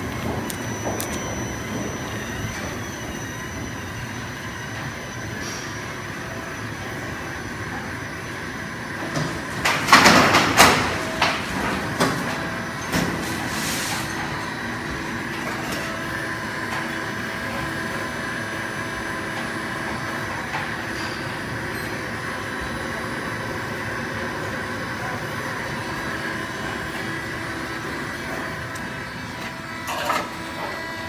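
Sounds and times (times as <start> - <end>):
factory machinery hum: 0.0 - 31.0.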